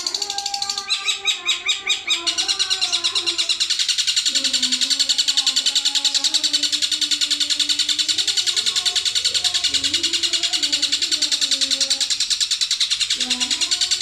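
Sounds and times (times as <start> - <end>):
songbird chattering high chirps: 0.0 - 14.0.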